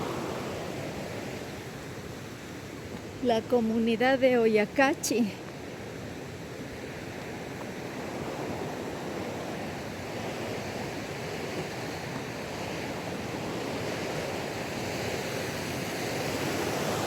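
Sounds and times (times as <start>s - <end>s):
river rushing: 0.0s - 5.4s, 6.2s - 17.0s.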